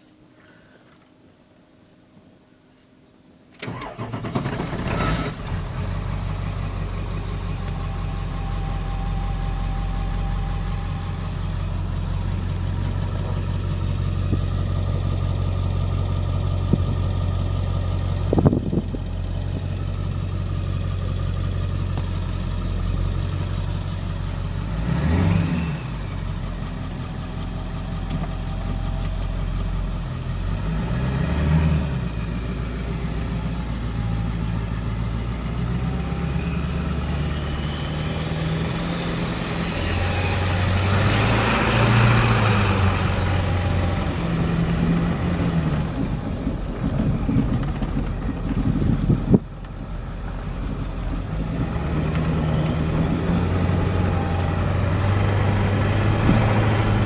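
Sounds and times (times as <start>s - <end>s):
diesel truck engine idling: 3.7s - 30.8s, 32.0s - 57.0s.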